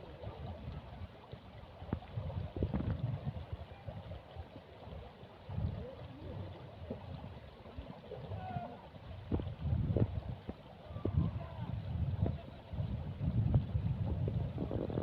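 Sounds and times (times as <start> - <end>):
wind buffeting microphone: 0.0 - 4.4, 5.4 - 15.0.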